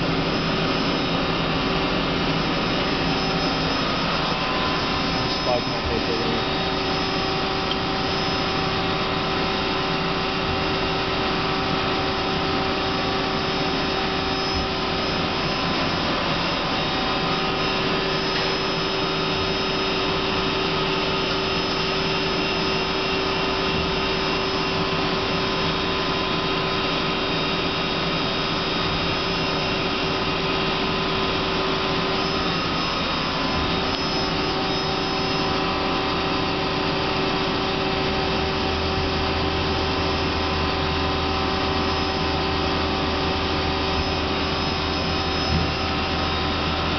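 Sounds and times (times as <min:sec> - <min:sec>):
cnc lathe humming and whining: 0:00.0 - 0:46.9.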